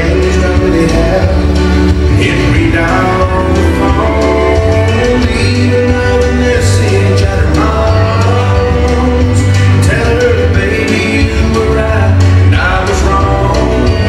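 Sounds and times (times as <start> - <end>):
country song singing: 0.0 - 14.0.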